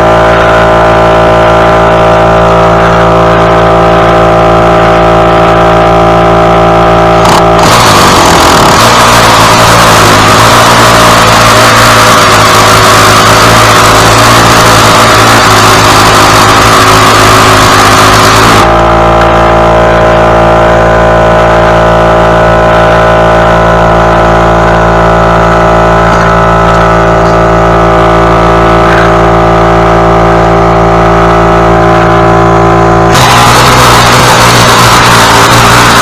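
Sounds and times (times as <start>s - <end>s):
small gasoline engine running: 0.0s - 36.0s.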